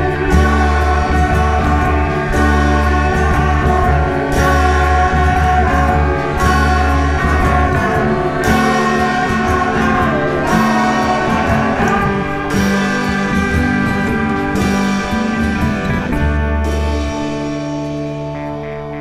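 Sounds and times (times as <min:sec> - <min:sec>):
electric keyboard chords: 0:00.0 - 0:19.0.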